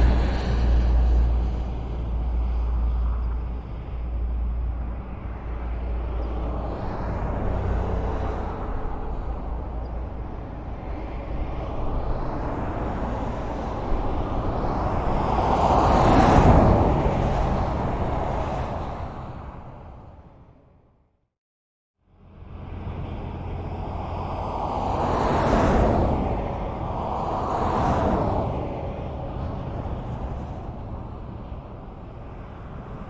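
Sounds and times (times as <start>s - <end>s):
highway traffic rumble: 0.0s - 21.2s, 22.0s - 33.0s.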